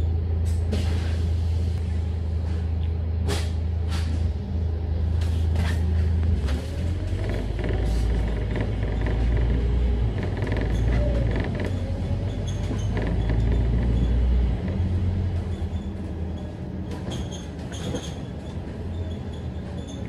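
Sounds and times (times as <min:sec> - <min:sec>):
bus body creaking and rattling: 0:00.0 - 0:20.0
bus engine drone: 0:00.0 - 0:20.0.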